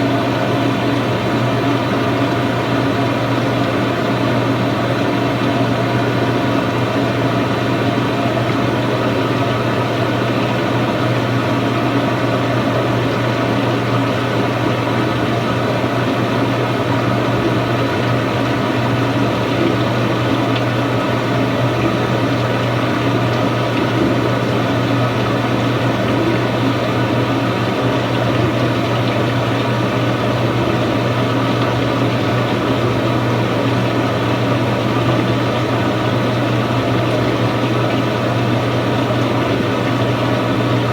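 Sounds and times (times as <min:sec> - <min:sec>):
washing machine running: 0:00.0 - 0:40.9.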